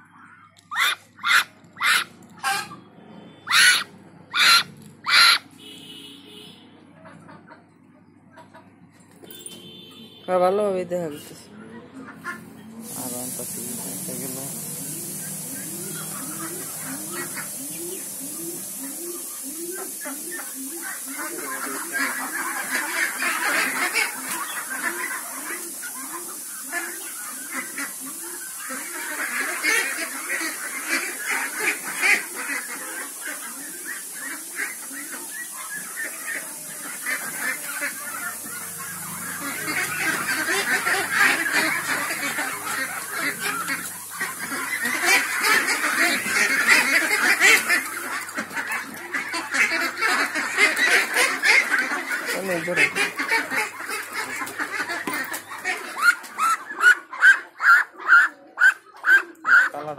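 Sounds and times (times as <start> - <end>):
ducks quacking: 0.0 - 9.0, 9.6 - 59.9.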